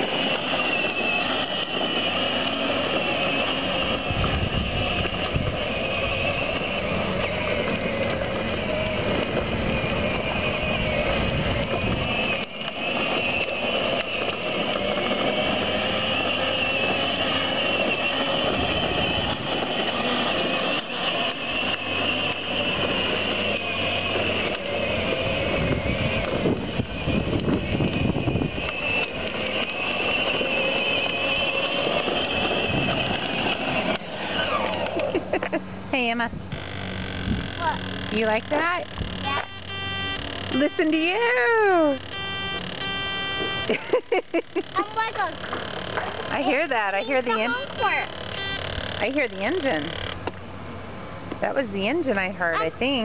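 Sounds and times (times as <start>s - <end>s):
electric toy motor whine: 0.0s - 50.4s
plastic wheels rolling on asphalt: 0.0s - 53.0s.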